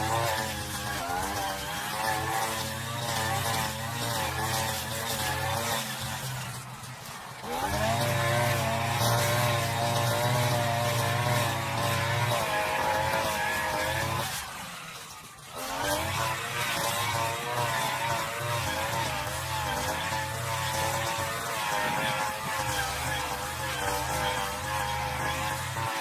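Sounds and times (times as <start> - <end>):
brush cutter engine revving: 0.0 - 26.0.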